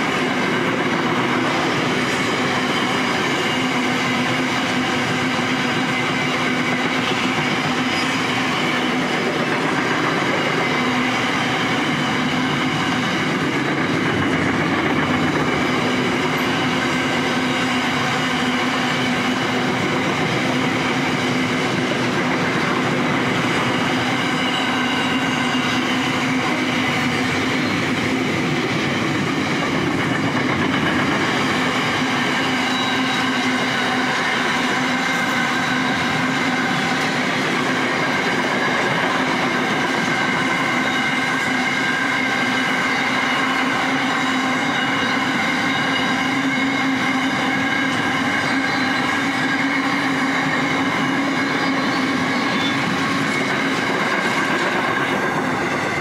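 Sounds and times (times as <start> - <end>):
wheels on rail noise: 0.0 - 56.0.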